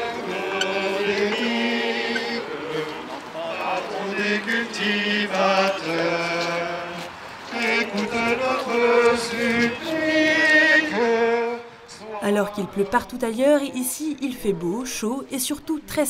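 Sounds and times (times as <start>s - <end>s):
voices singing slow religious chant: 0.0s - 15.0s.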